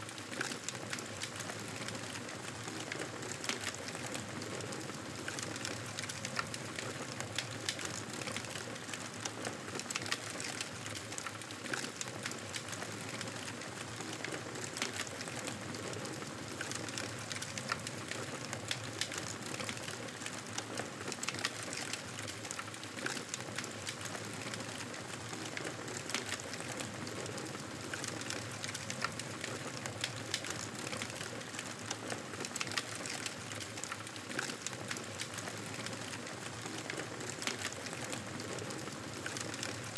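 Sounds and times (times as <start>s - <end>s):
burning wood crackles and pops: 0.0s - 39.9s.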